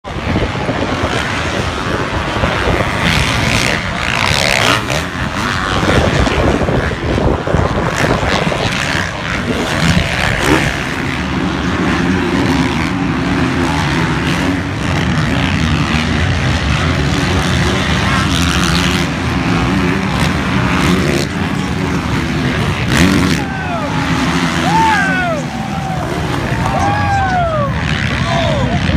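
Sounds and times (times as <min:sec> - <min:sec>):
motocross bike engines revving: 0:00.0 - 0:28.9
steady engine tone: 0:00.0 - 0:28.9.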